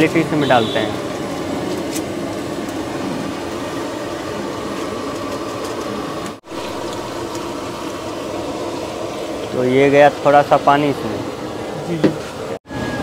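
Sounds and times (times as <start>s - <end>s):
gas burner roaring: 0.0s - 13.0s.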